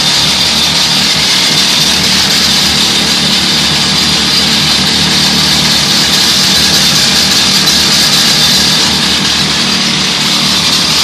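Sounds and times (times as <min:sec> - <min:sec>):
pneumatic rock drill boring rock: 0:00.0 - 0:11.0.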